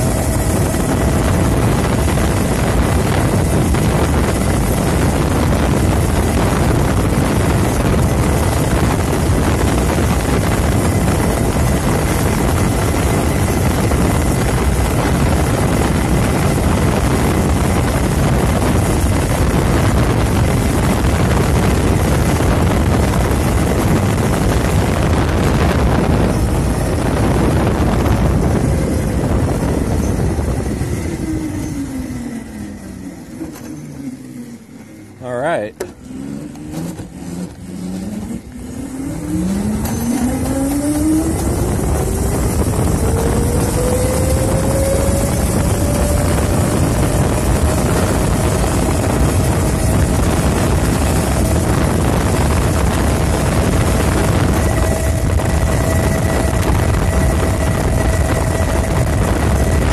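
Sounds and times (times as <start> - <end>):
electric motor whine: 0.0 - 35.2, 35.8 - 59.9
wind and road noise: 0.0 - 59.9.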